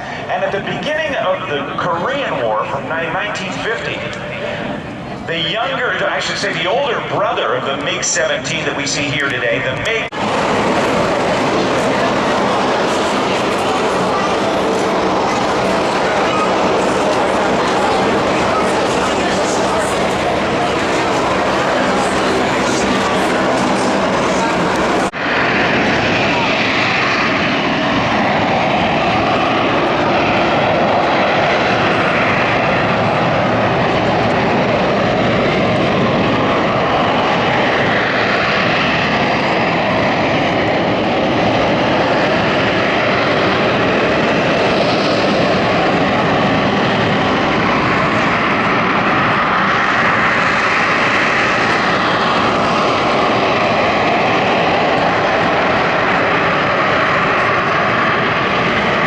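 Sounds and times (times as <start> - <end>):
jet fighter engine roar: 0.0 - 59.0.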